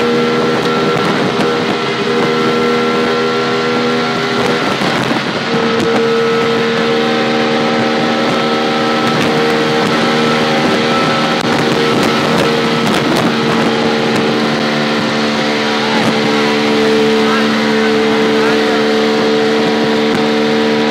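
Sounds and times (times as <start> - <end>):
small engine running hard: 0.0 - 20.9
wind and road noise: 0.0 - 20.9.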